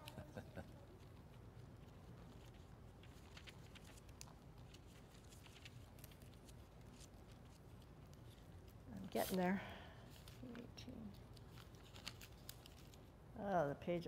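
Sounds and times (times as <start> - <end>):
low room hum: 0.0 - 14.0
pages being leafed through: 1.0 - 9.5, 10.1 - 13.1.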